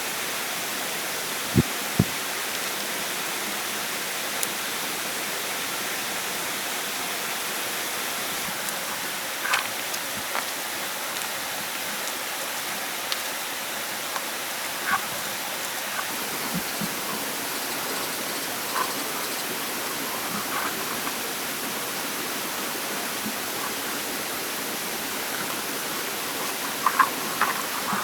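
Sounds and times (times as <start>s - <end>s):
hiss of water: 0.0s - 28.0s.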